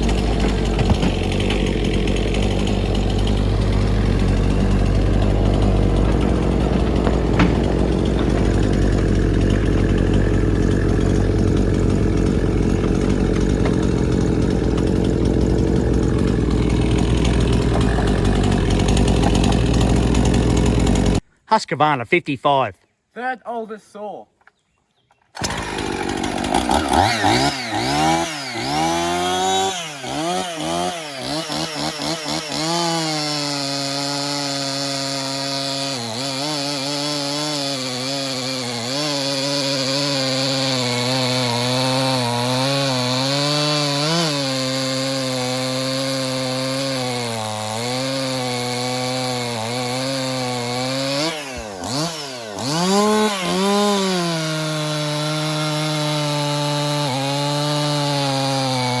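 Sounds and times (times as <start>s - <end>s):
chainsaw cutting wood: 0.0s - 21.2s, 25.3s - 59.0s.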